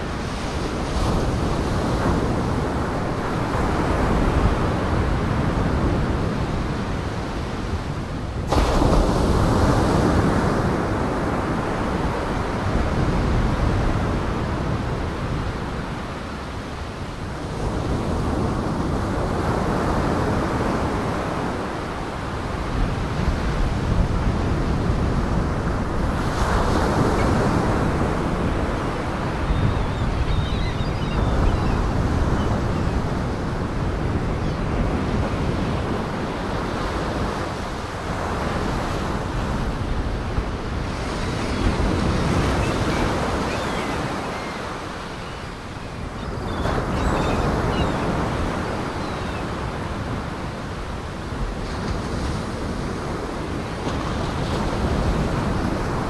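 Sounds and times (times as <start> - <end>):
waves breaking on a beach: 0.0 - 56.0
wind: 0.0 - 56.0.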